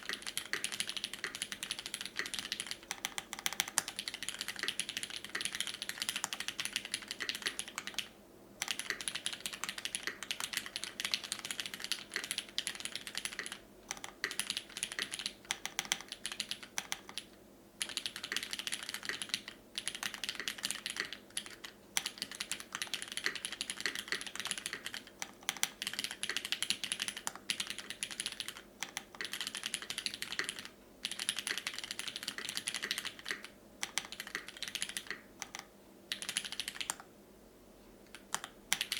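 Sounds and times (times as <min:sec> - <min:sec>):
mechanical keyboard typing: 0:00.0 - 0:37.1, 0:38.1 - 0:38.9.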